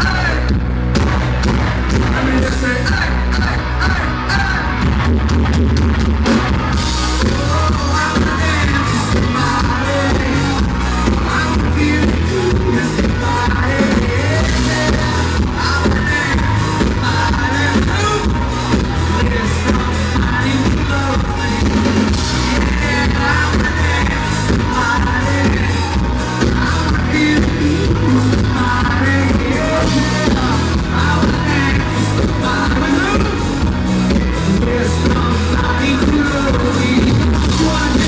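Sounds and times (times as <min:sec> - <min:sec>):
man singing lead: 0:00.0 - 0:05.0, 0:06.7 - 0:38.0
drums keeping a steady beat: 0:00.0 - 0:38.0
live country band playing: 0:00.0 - 0:38.0.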